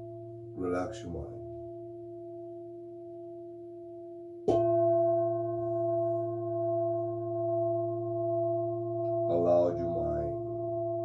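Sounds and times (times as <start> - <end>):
earlier singing bowl ringing: 1.4 - 11.0
singing bowl struck and ringing: 1.4 - 11.0.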